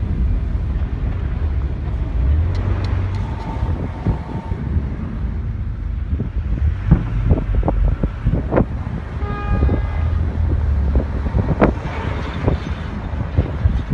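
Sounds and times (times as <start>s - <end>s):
wind rumble on microphone: 0.0s - 13.9s.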